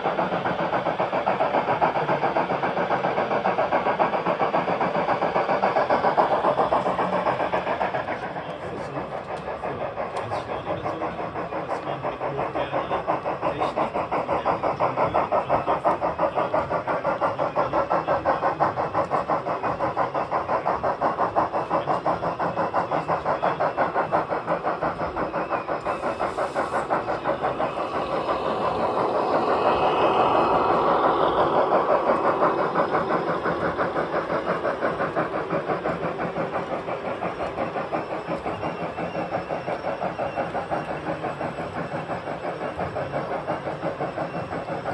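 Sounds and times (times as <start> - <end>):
rapid steam chuffing from speaker: 0.0 - 44.9.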